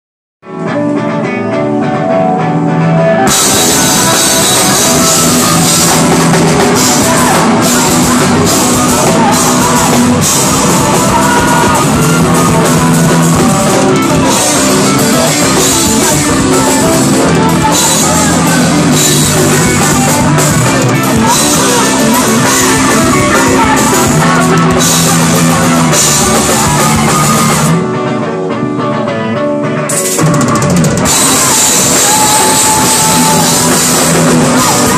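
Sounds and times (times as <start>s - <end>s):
electric guitars: 0.4s - 34.9s
drum kit with crashing cymbals: 3.3s - 27.8s, 29.9s - 34.9s.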